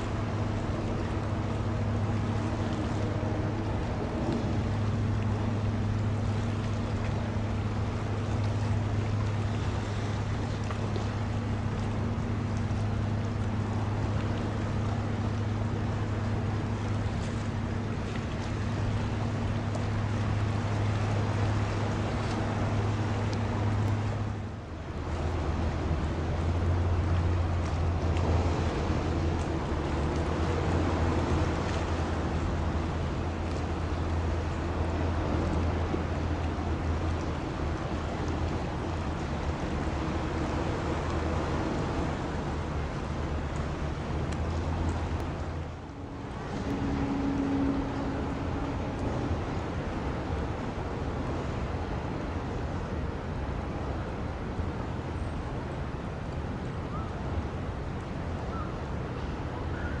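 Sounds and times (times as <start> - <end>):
hiss of wind and water: 0.0 - 60.0.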